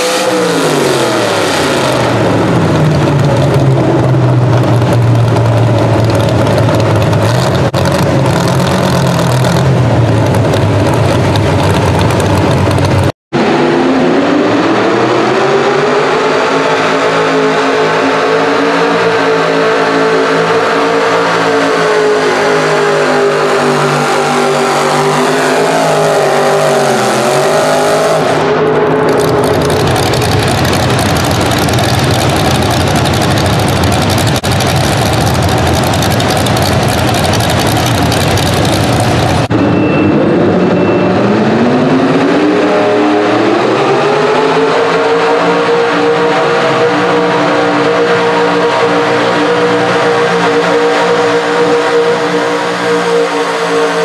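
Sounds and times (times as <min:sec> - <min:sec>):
truck engine at full throttle: 0:00.0 - 0:54.0
truck engine revving high: 0:00.0 - 0:54.0.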